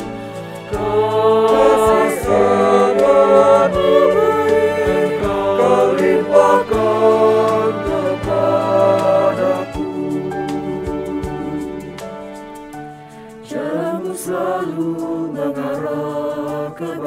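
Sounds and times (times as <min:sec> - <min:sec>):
mixed choir singing in harmony: 0:00.0 - 0:17.0.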